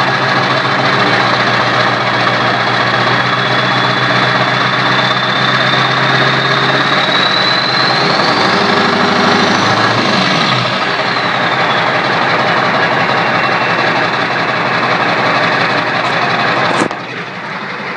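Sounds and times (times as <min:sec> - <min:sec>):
high turbo whine: 0:00.0 - 0:17.9
turbocharged engine revving: 0:00.0 - 0:17.9.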